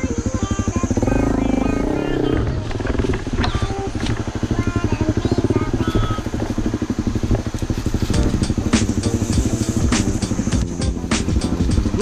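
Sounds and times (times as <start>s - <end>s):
dirt bike engine chugging: 0.0s - 12.0s.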